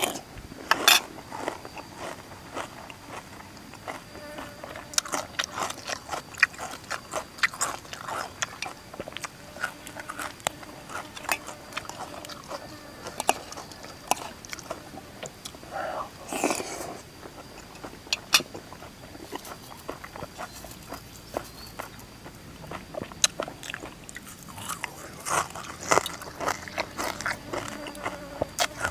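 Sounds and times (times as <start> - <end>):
crunching and chewing vegetables: 0.0 - 28.9.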